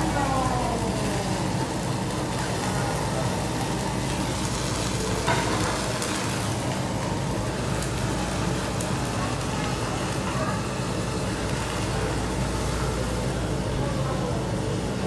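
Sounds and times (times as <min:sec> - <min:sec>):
vegetables sizzling on griddle: 0:00.0 - 0:15.0.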